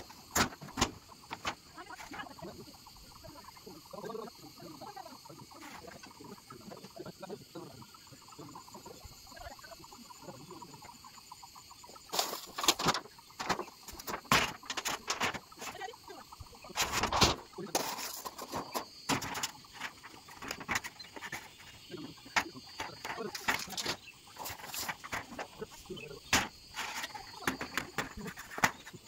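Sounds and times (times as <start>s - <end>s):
chickens clucking faintly: 0.0s - 29.0s.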